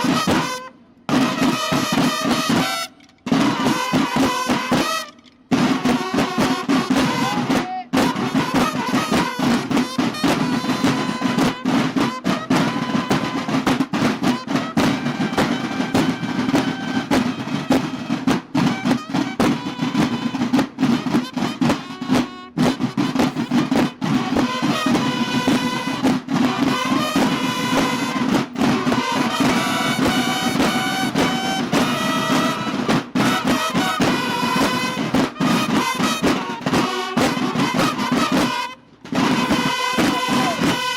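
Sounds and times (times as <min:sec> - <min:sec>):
trumpets playing: 0:00.0 - 0:40.9
fast dense drumming: 0:03.3 - 0:40.9.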